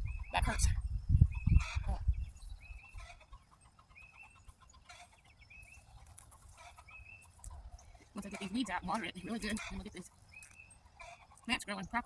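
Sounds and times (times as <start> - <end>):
faint chickens calling: 0.0 - 12.0.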